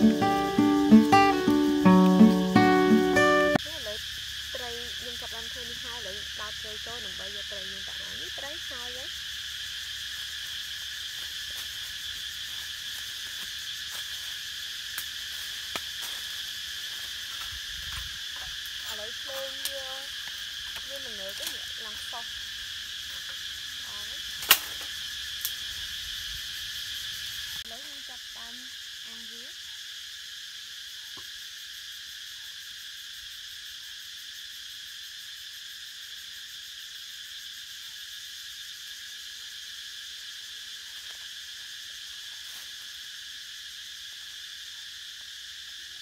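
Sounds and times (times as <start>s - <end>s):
forest insects droning: 0.0s - 46.0s.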